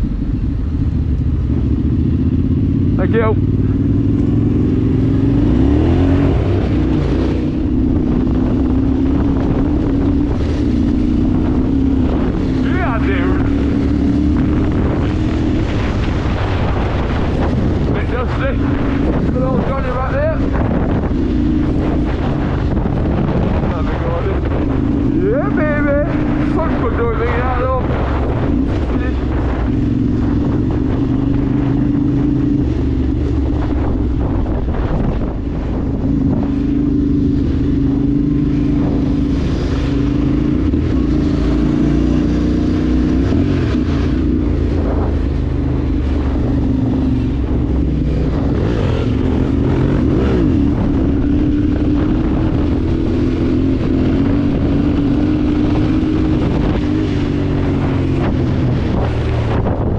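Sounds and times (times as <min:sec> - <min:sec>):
vehicle engine droning: 0:00.0 - 0:59.9
wind noise on microphone: 0:00.0 - 0:59.9.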